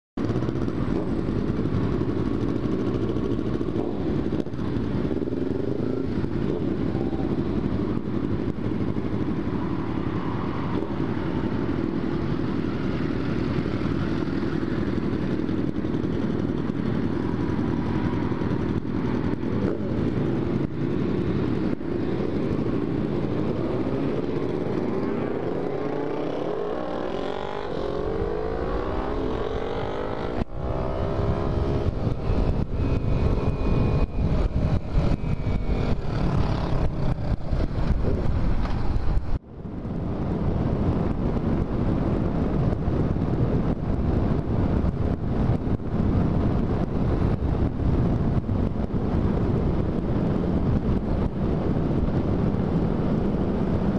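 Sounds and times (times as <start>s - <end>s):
motorcycle engine running: 0.2s - 53.9s
wind rumble on microphone: 0.2s - 53.9s.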